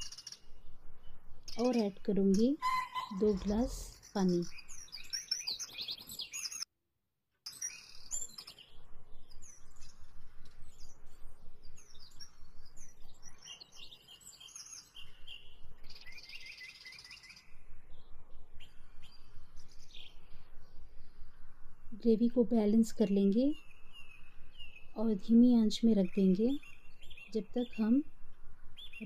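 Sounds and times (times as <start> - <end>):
small birds chirping: 0.0 - 6.7, 7.5 - 29.0.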